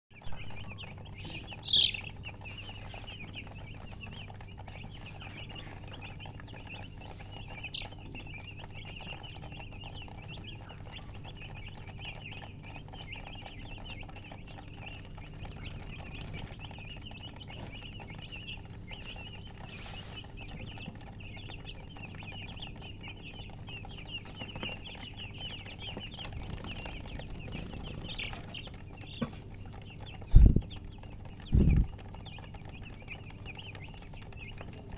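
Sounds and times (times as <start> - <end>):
chicks peeping: 0.1 - 34.9
steady low hum: 0.2 - 34.9.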